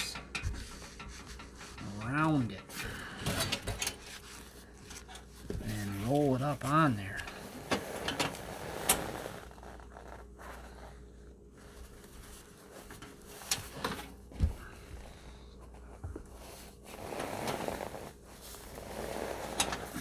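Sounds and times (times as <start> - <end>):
insulation blanket rustling: 0.0 - 20.0.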